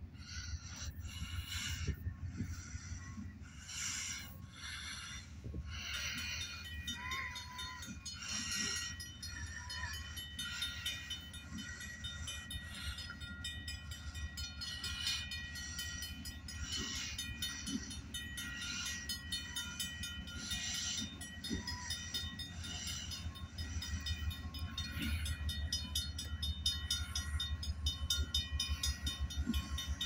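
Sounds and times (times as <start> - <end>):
distant freight train rumbling: 0.0 - 30.0.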